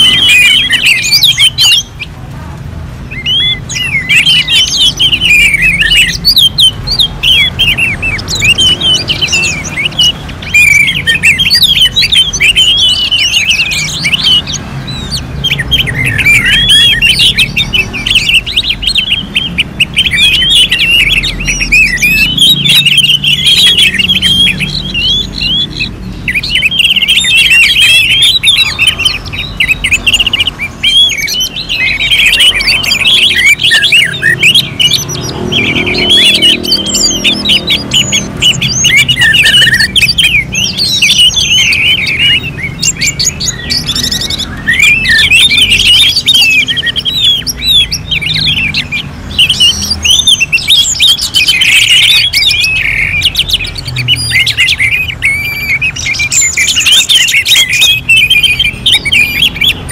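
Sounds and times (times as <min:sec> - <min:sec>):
thrushes singing: 0:00.0 - 0:59.9.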